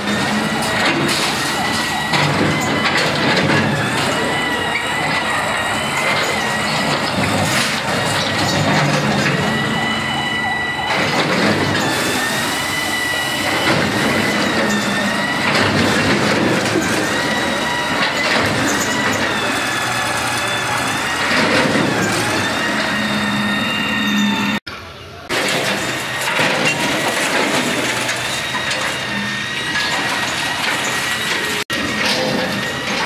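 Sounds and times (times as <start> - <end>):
excavator engine and hydraulics whine: 0.0 - 33.0.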